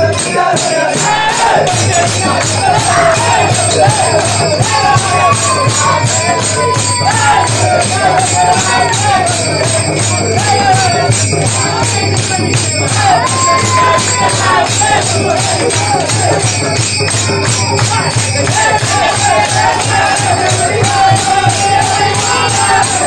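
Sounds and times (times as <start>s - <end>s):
group singing devotional song: 0.0s - 23.0s
hand clapping: 0.0s - 23.0s
jingling percussion beat: 0.0s - 23.0s.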